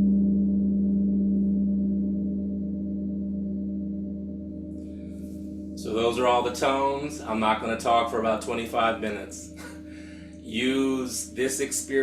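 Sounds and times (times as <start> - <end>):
deep hum: 0.0 - 12.0
singing bowl ringing low: 0.0 - 12.0.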